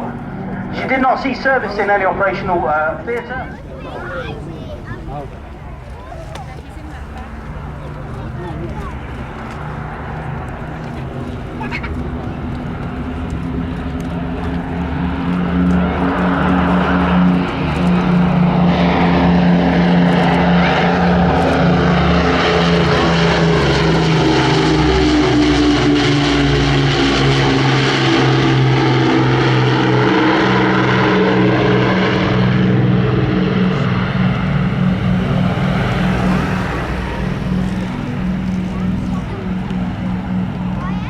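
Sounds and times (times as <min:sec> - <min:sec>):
piston aircraft engines droning: 0:00.0 - 0:41.0.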